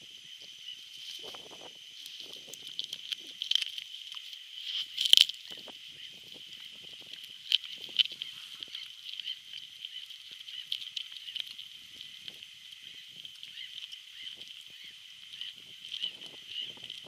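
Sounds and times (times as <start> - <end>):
dry grass rustling: 0.7 - 17.0.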